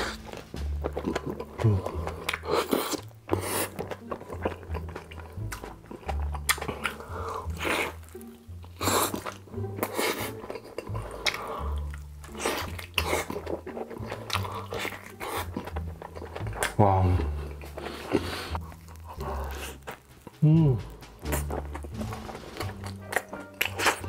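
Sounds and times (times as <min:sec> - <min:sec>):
background music with bass: 0:00.0 - 0:24.0
man crunchy chewing: 0:00.0 - 0:24.0.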